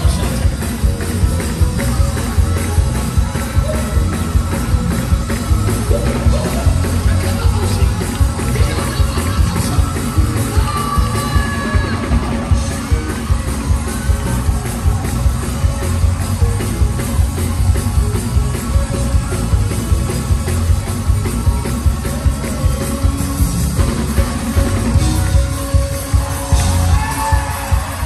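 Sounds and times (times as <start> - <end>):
live gospel band playing: 0.0 - 28.0.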